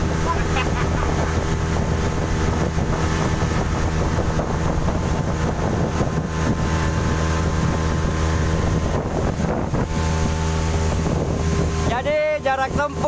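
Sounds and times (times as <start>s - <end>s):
outboard motor running: 0.0s - 13.0s
water rushing past hull: 0.0s - 13.0s
wind on microphone: 0.0s - 13.0s.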